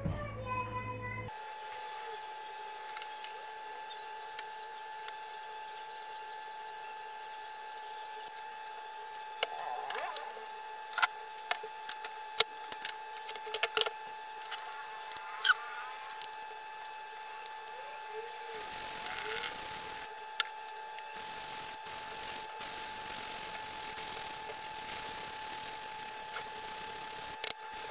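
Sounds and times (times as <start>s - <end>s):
faint steady whine: 0.0s - 27.9s.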